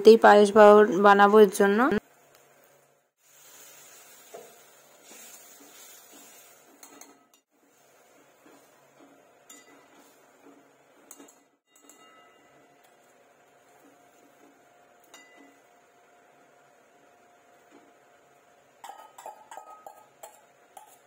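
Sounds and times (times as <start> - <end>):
frying hiss: 1.7 - 21.0.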